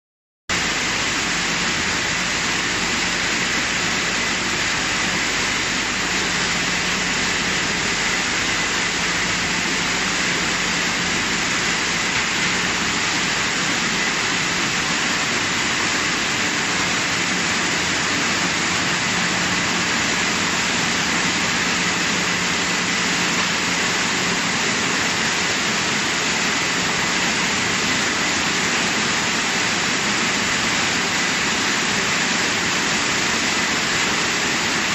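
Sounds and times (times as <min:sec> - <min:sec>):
machine hum: 0:00.5 - 0:34.9.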